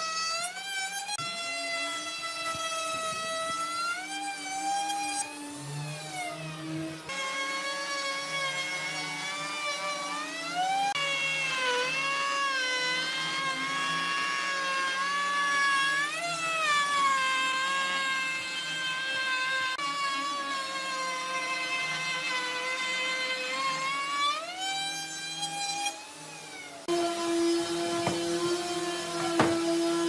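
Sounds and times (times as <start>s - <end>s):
power tool motor whining: 0.0s - 30.0s.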